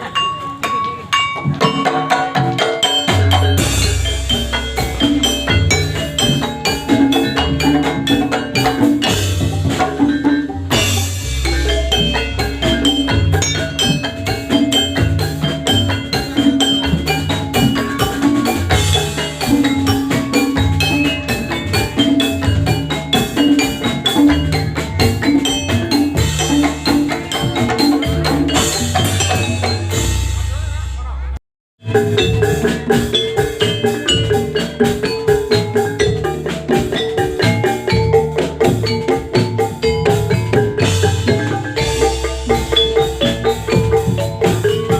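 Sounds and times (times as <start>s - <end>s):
metallophones ringing: 0.0s - 31.2s, 31.8s - 44.9s
drums: 0.0s - 44.9s.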